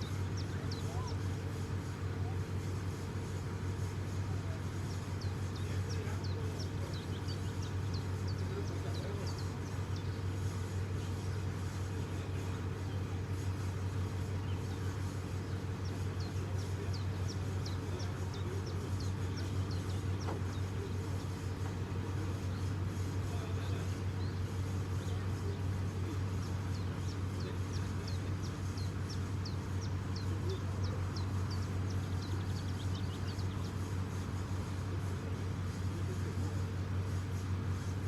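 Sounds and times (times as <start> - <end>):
bird chirping: 0.0 - 38.0
diesel engine running: 0.0 - 38.0.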